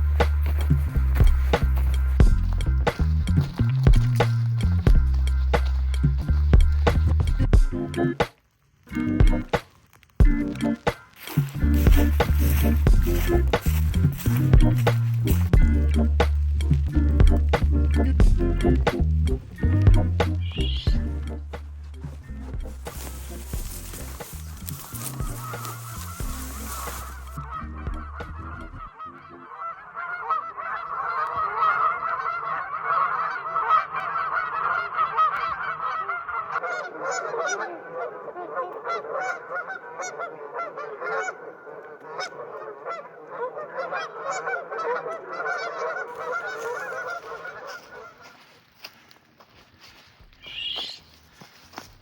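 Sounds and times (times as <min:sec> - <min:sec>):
flock of geese honking: 0:00.0 - 0:08.2, 0:10.2 - 0:16.3, 0:16.9 - 0:51.9.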